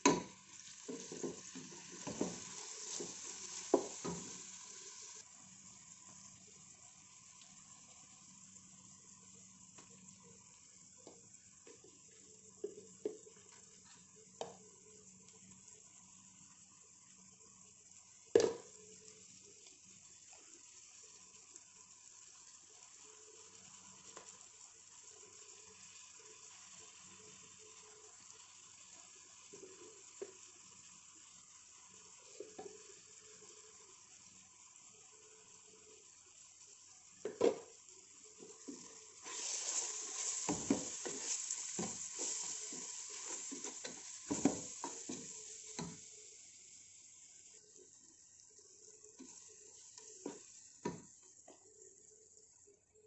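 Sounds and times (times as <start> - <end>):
onions sizzling in a pot: 0.0 - 53.0.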